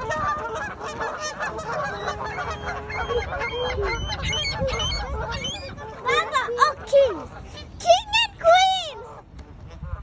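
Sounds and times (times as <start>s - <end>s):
flock of birds calling: 0.0s - 10.0s.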